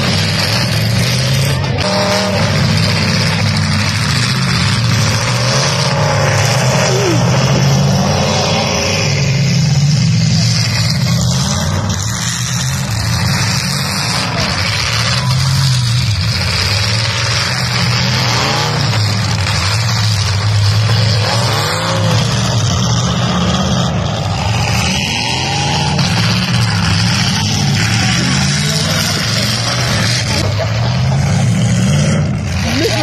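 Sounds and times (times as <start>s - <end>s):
car engines revving hard: 0.0s - 33.0s
wheels spinning in dirt: 0.0s - 33.0s.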